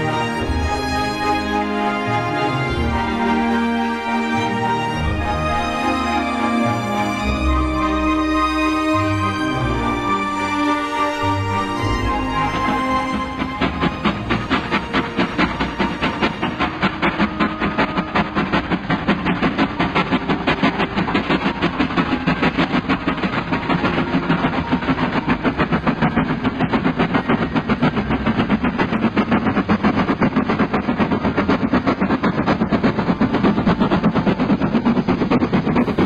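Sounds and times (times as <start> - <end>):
steam locomotive chuffing: 0.0 - 36.0.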